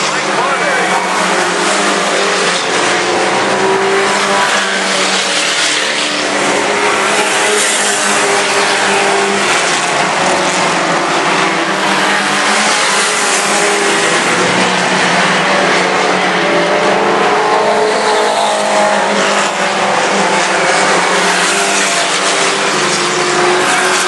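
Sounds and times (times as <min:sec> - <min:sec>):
race truck engines droning: 0:00.0 - 0:24.0.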